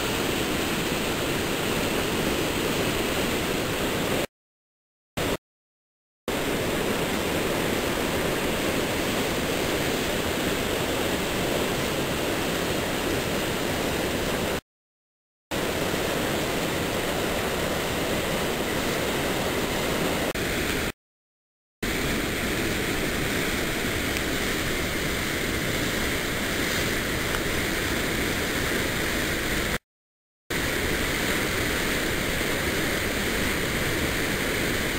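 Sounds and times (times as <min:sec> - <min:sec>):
river rushing over rapids: 0:00.0 - 0:04.3, 0:06.3 - 0:14.6, 0:15.6 - 0:20.9, 0:21.9 - 0:29.8, 0:30.5 - 0:34.9.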